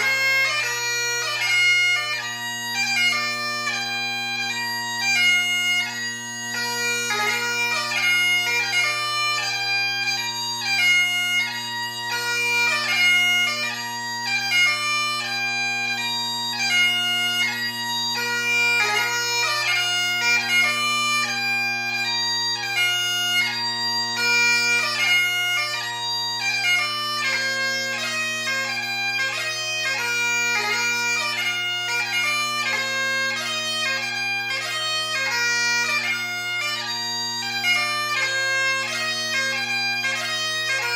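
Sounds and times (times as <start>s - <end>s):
bagpipe chanter melody: 0.0s - 40.9s
bagpipe drones: 0.0s - 40.9s.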